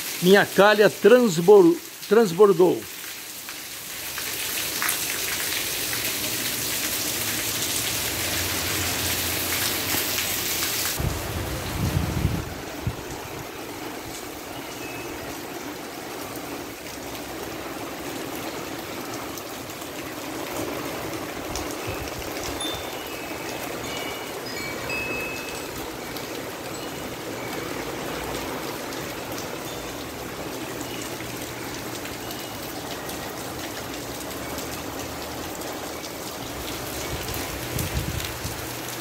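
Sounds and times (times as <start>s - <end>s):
steady rain hiss: 0.0s - 39.0s
water pouring from gutter: 0.0s - 39.0s.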